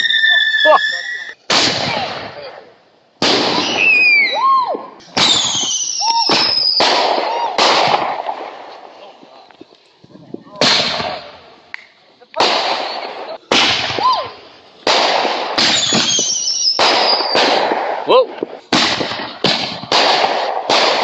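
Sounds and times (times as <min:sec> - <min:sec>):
fireworks whistling: 0:00.0 - 0:02.5, 0:03.2 - 0:09.2, 0:12.4 - 0:21.0
fireworks bangs: 0:00.0 - 0:09.5, 0:10.2 - 0:21.0.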